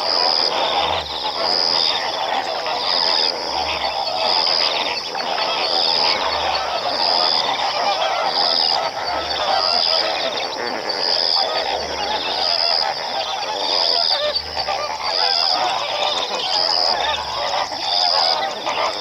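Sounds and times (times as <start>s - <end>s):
flamingos honking: 0.0s - 19.0s.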